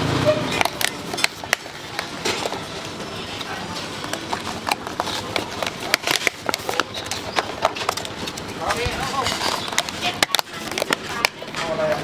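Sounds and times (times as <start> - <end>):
utensils clacking and knocking: 0.0 - 12.0.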